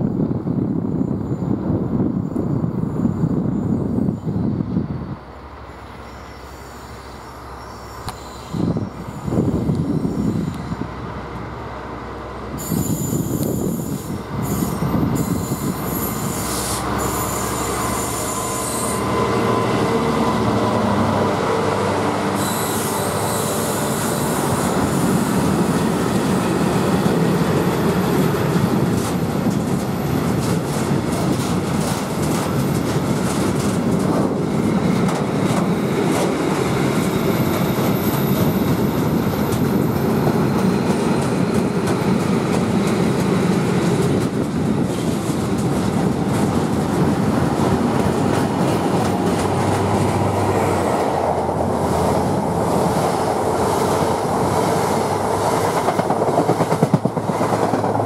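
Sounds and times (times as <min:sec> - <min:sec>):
diesel locomotive passing: 0:00.0 - 0:58.0
freight train rolling rumble: 0:00.0 - 0:58.0.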